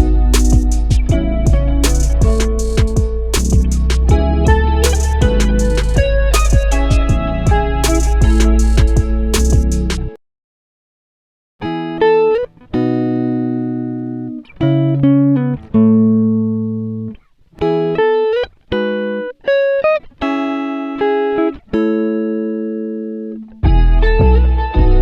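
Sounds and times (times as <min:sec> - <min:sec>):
plucked guitar melody: 0:00.0 - 0:10.2, 0:11.6 - 0:25.0.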